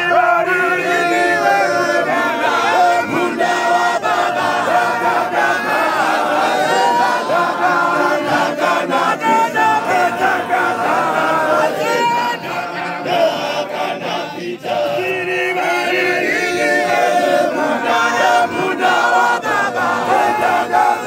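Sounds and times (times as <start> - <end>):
men singing in chorus: 0.0 - 21.0.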